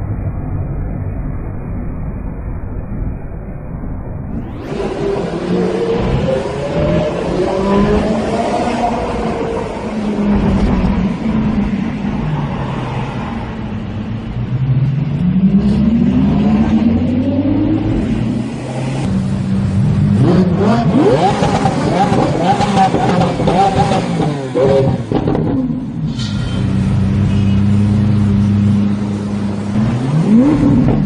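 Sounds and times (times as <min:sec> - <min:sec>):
car engine revving: 0:04.3 - 0:12.6, 0:13.4 - 0:31.0.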